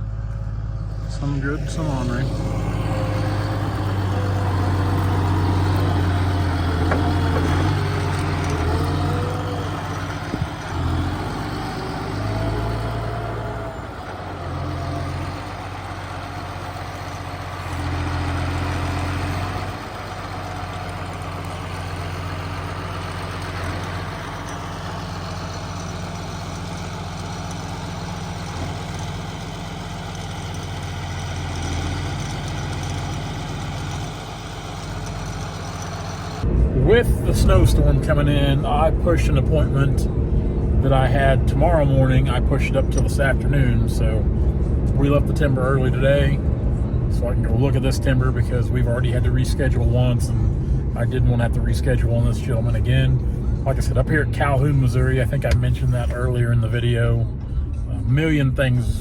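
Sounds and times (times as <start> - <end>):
heavy engine humming: 0.0 - 59.0.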